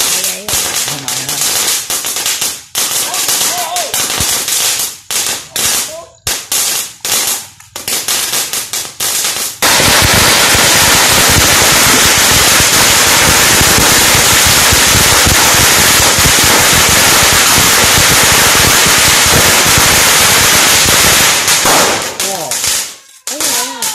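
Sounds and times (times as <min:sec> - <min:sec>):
firecrackers bangs and crackle: 0:00.0 - 0:23.9.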